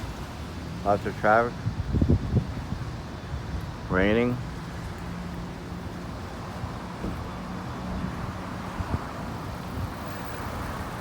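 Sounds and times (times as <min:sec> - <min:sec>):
traffic on wet road: 0:00.0 - 0:11.0.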